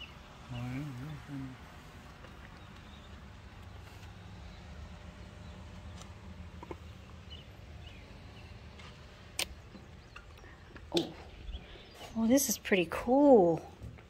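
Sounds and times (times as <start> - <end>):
steady low rumble: 0.2 - 12.9.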